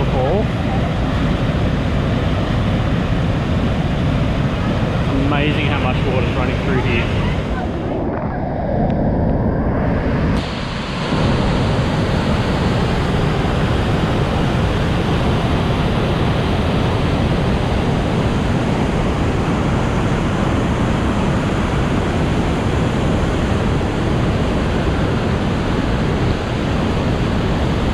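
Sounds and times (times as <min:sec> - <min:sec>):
waterfall rushing: 0:00.0 - 0:08.0, 0:10.4 - 0:27.9.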